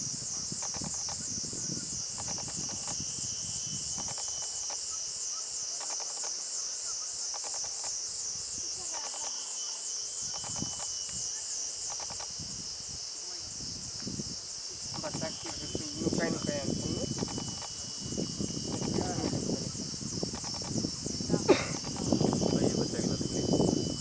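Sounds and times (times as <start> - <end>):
insect clicking calls: 0.0 - 24.0
insect pulsing trill: 0.0 - 24.0.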